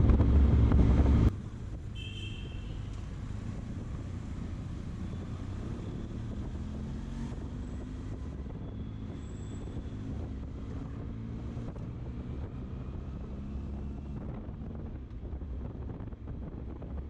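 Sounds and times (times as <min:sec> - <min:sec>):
wind buffeting microphone: 0:03.2 - 0:17.0.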